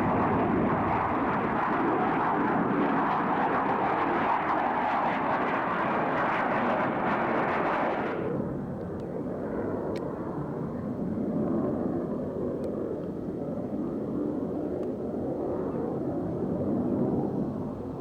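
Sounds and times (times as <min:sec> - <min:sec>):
distant jet engine roar: 0:00.0 - 0:18.0.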